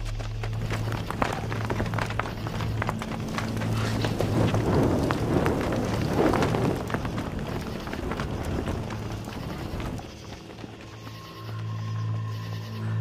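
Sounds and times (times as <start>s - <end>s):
leaves and branches rustling: 0.0s - 11.7s
hurried footsteps: 0.0s - 12.6s.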